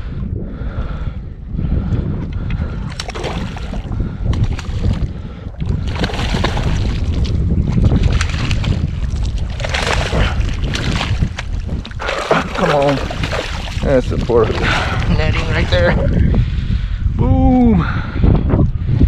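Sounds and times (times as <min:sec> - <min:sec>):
gusty wind buffeting microphone: 0:00.0 - 0:19.0
water noise: 0:01.8 - 0:17.8.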